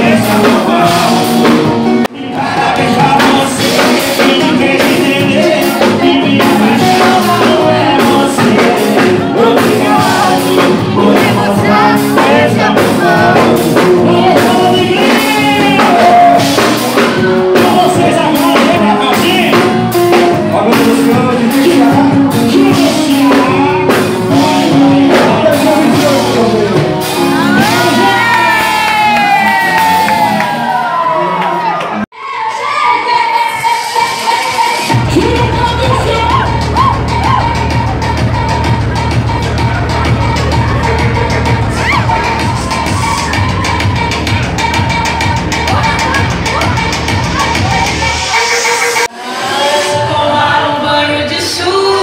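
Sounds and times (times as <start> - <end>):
live band playing with singer: 0.0 - 32.0, 32.9 - 52.0.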